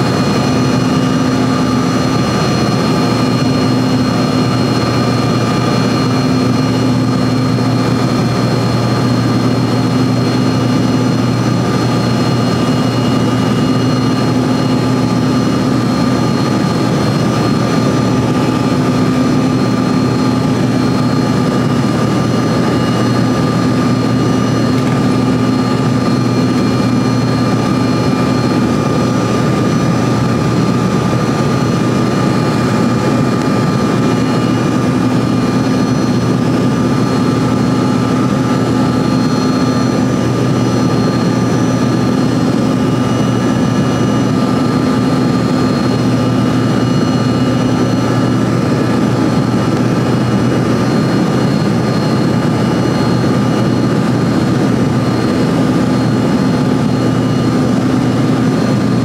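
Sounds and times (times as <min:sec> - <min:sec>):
jet engines low hum: 0:00.0 - 0:59.0
steady whining engine tones: 0:00.0 - 0:59.0.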